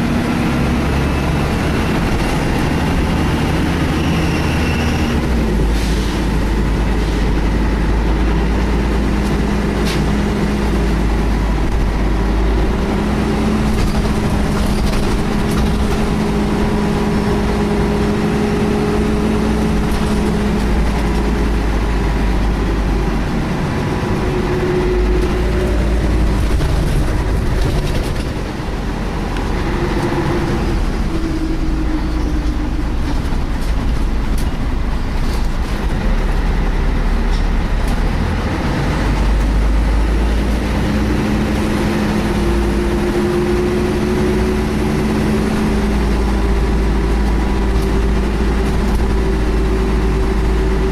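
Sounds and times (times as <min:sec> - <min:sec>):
bus engine low drone: 0:00.0 - 0:50.9.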